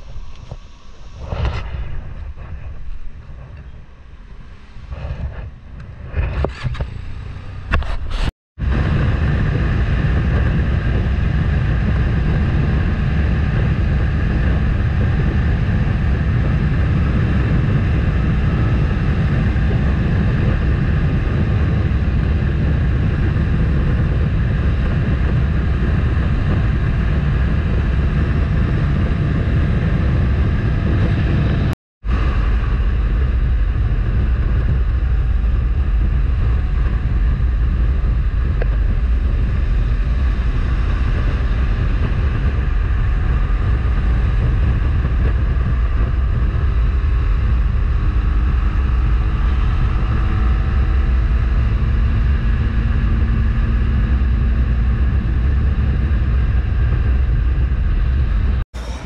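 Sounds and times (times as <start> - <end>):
motorcycle engine drone: 0.0 - 59.0
wind rush on microphone: 0.0 - 59.0.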